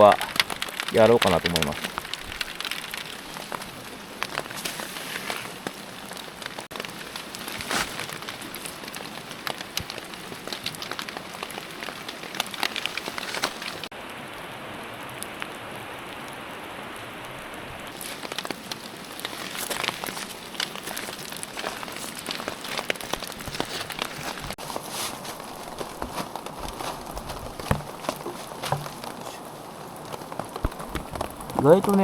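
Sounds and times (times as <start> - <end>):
raindrop hits: 0.0 - 14.3, 17.8 - 32.0
steady rain falling: 0.0 - 32.0.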